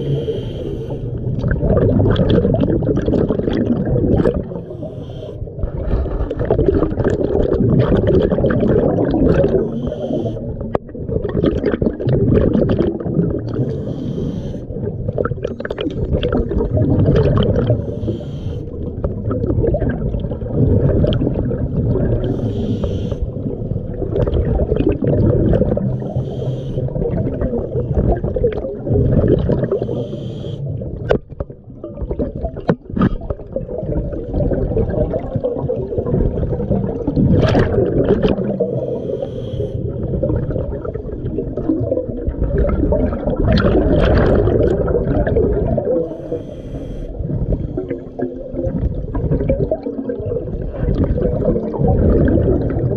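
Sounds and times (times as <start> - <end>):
underwater bubbling of exhaled bubbles: 0.0 - 52.9.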